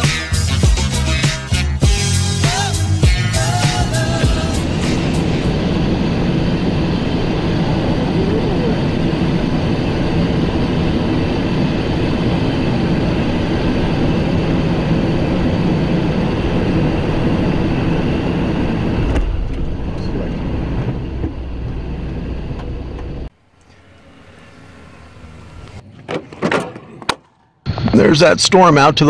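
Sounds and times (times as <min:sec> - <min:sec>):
jet engine and airflow noise: 0:00.0 - 0:29.0
wheels rumbling on runway: 0:01.2 - 0:28.0.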